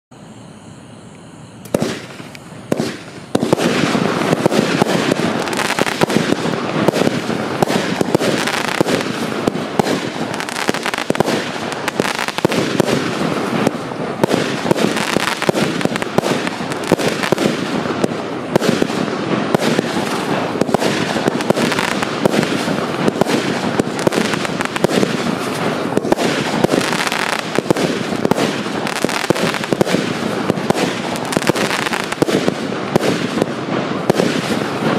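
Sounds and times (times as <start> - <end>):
firework barrage launches and bursts: 1.6 - 34.9.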